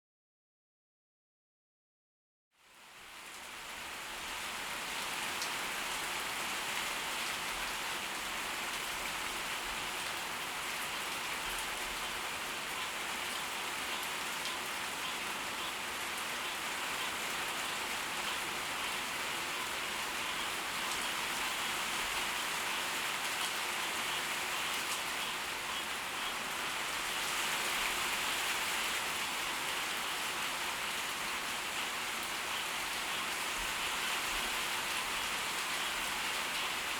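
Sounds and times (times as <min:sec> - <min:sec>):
heavy rain pouring: 0:02.7 - 0:36.9.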